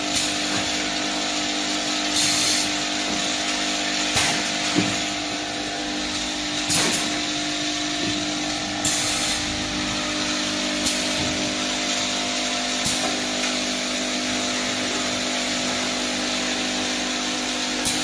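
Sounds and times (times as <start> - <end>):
machine hum: 0.2 - 18.0.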